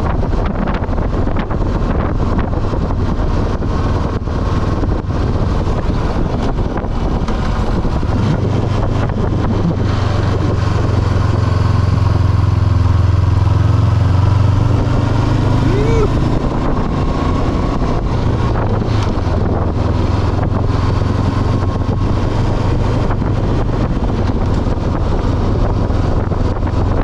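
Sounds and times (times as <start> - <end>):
motorcycle engine pulling uphill: 0.0 - 27.0
wind buffeting microphone: 0.0 - 27.0.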